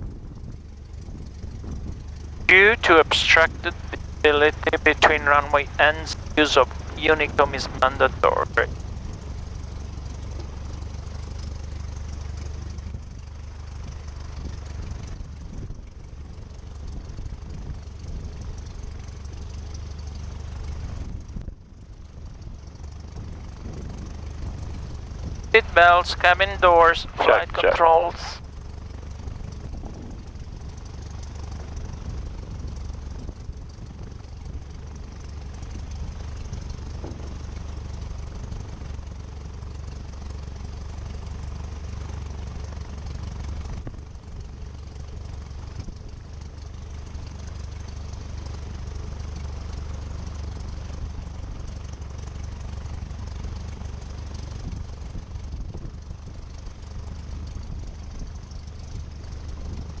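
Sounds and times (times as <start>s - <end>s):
piston aircraft engine droning: 0.0s - 60.0s.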